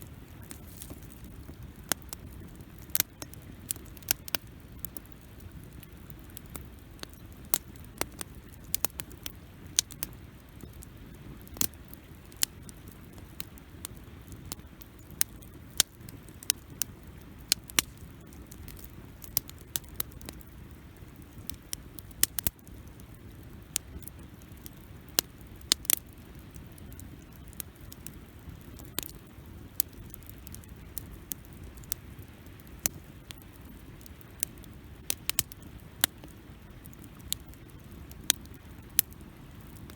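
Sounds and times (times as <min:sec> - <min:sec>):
campfire crackling and popping: 0:00.0 - 0:39.9
low steady fire rumble: 0:00.0 - 0:39.9.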